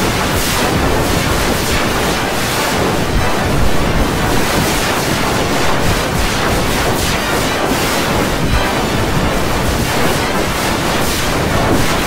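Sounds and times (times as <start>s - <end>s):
dense distorted noise: 0.0s - 12.0s.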